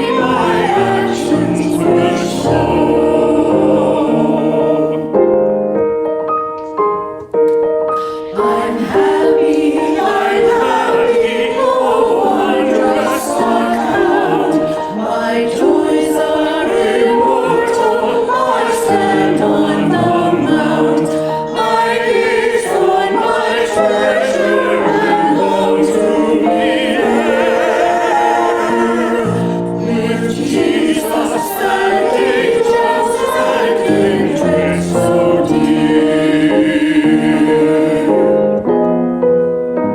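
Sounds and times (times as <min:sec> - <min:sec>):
choir singing: 0:00.0 - 0:05.6, 0:08.0 - 0:38.7.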